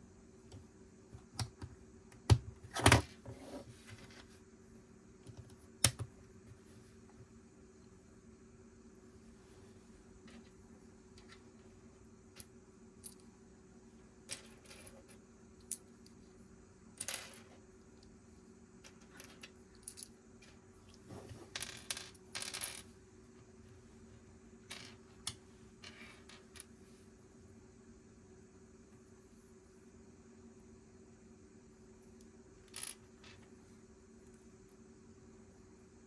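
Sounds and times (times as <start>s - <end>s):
faint low hum: 0.0s - 36.0s.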